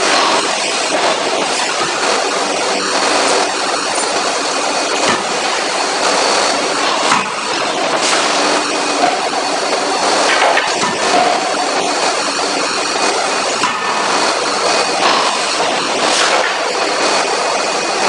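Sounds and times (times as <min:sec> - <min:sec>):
forge machinery din: 0:00.0 - 0:18.0.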